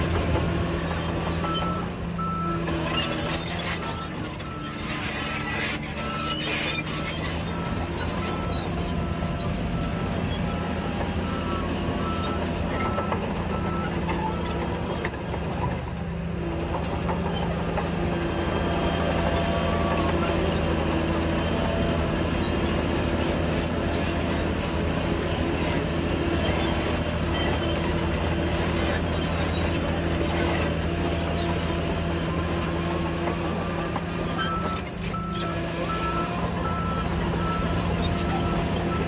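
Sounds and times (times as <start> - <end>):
crawler tracks clanking: 0.0 - 39.0
diesel machinery running: 0.0 - 39.0.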